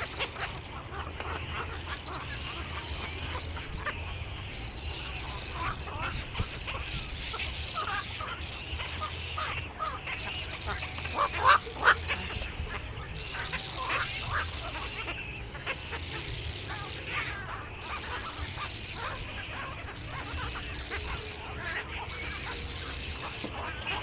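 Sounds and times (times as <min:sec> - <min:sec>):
birds chattering: 0:00.0 - 0:24.0
low steady hum: 0:00.0 - 0:24.0.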